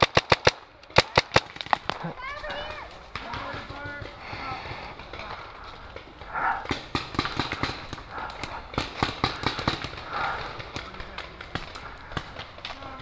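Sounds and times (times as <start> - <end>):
paintball markers firing: 0.0 - 2.0, 3.1 - 13.0.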